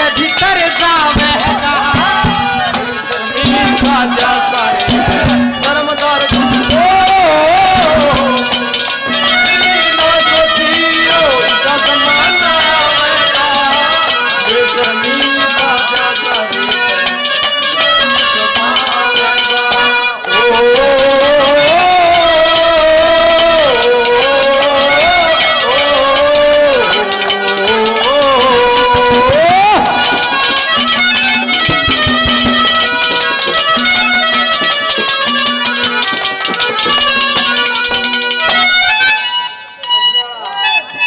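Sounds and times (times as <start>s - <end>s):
drumming: 0.0s - 39.2s
sliding folk melody: 0.0s - 41.0s.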